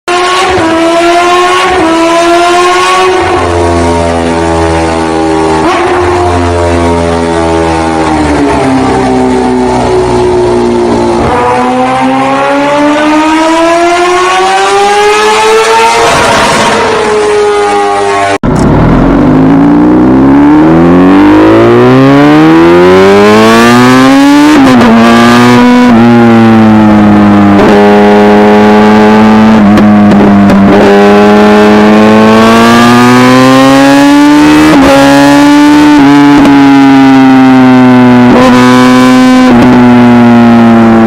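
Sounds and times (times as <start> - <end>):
motorcycle engine accelerating: 0.1 - 41.0.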